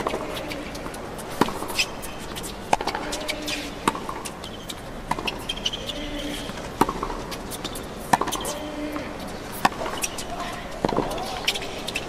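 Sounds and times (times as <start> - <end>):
tennis ball struck by rackets: 0.0 - 1.9, 2.7 - 4.4, 5.0 - 11.6.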